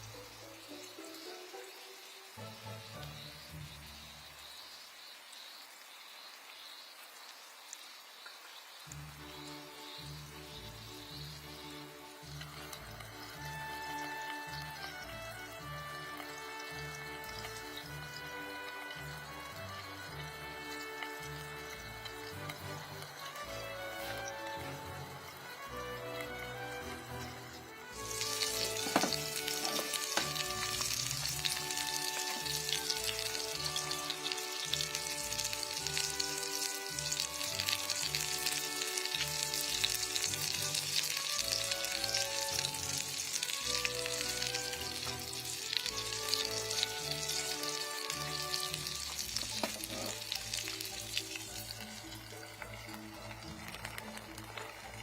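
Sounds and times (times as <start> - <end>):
background music: 0.0 - 4.5, 8.8 - 55.0
food sizzling in a pan: 0.0 - 55.0.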